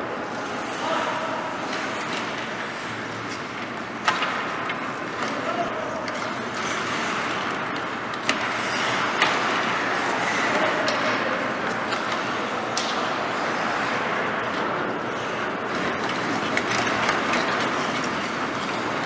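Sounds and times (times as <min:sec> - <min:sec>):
skate blades scraping ice: 0:00.2 - 0:19.0.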